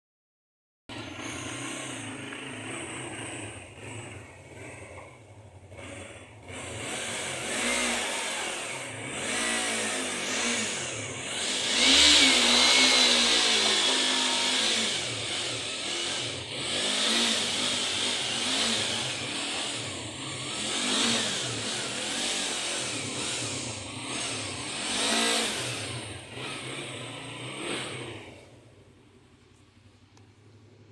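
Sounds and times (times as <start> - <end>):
motorcycle engine revving: 0.9 - 30.9.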